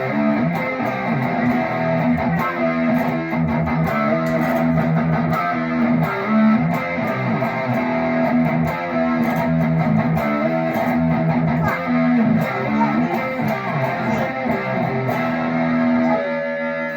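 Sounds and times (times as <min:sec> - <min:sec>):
electric guitar playing: 0:00.0 - 0:16.9.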